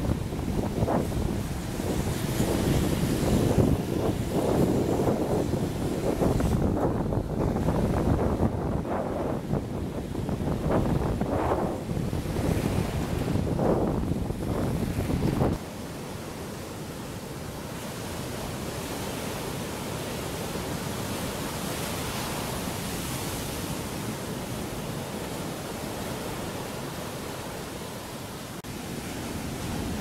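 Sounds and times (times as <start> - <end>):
ocean waves breaking: 0.0 - 30.0.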